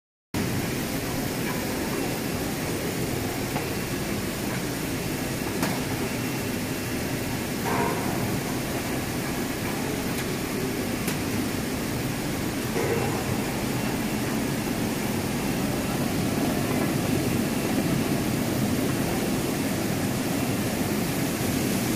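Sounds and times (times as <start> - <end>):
processing machinery running: 0.4 - 21.9.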